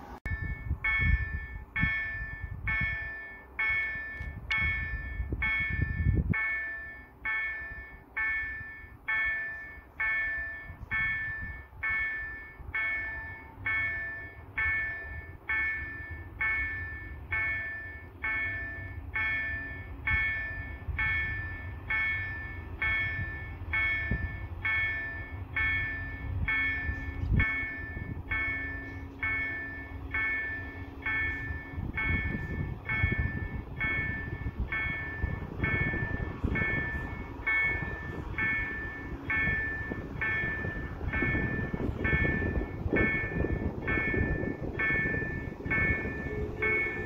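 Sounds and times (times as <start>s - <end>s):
level-crossing warning bell ringing: 0.0s - 47.0s.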